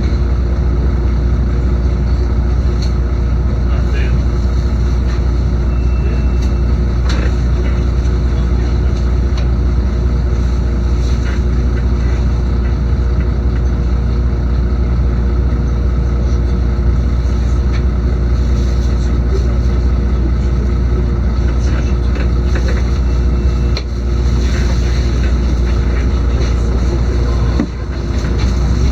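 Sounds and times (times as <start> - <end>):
bus engine rumble: 0.0 - 28.9
faint steady whine: 0.0 - 28.9.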